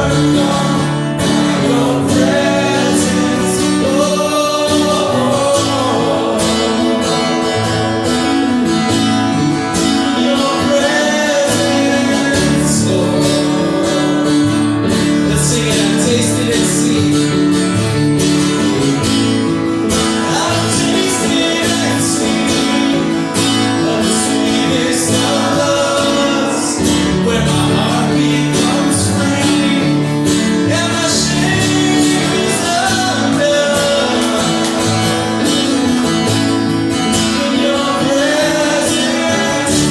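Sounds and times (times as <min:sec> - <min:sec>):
person singing: 0:00.0 - 0:39.9
strummed acoustic guitar: 0:00.0 - 0:39.9.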